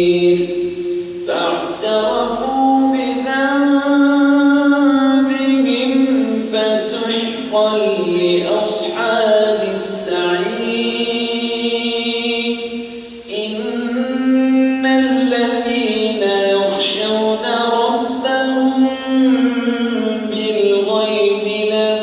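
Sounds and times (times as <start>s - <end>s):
man chanting melodic recitation: 0.0s - 22.0s.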